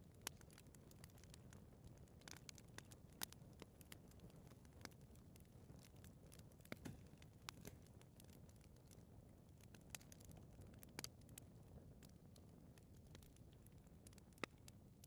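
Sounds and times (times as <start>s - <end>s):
fire crackling and popping: 0.0s - 15.0s
low rumble of flame: 0.0s - 15.0s.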